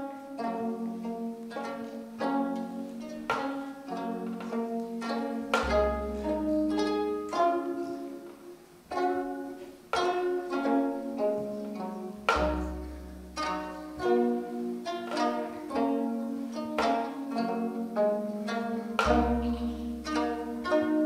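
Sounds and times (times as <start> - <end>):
plucked zither melody: 0.0 - 21.0.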